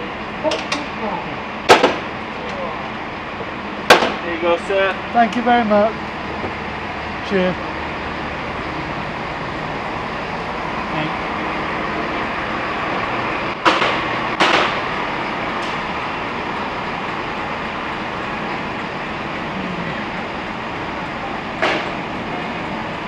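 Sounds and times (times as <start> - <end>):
railway platform din: 0.0 - 23.0.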